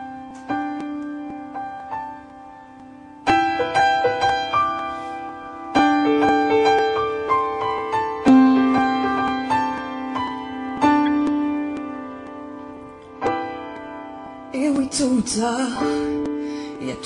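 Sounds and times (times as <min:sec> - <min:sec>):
piano playing: 0:00.0 - 0:17.0.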